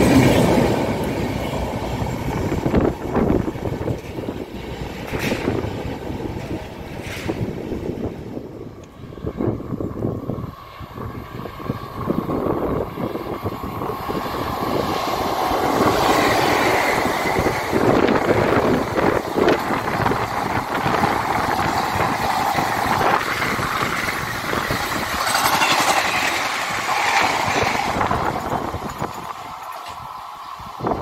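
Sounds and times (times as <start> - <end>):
train passing at speed: 0.0 - 31.0.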